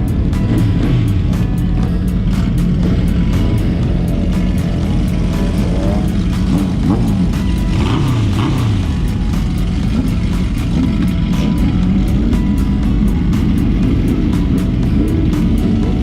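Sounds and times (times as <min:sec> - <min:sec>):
motorcycle engine revving: 0:00.0 - 0:16.0
music playing: 0:00.0 - 0:16.0.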